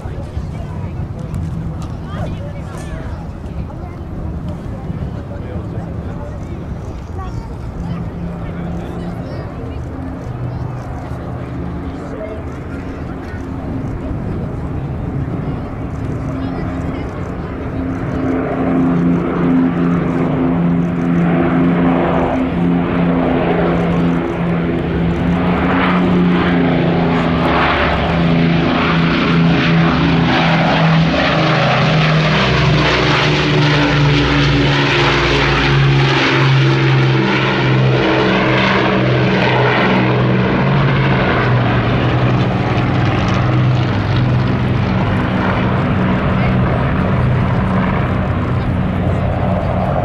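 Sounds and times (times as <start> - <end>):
propeller aircraft engines droning: 0.0 - 50.0.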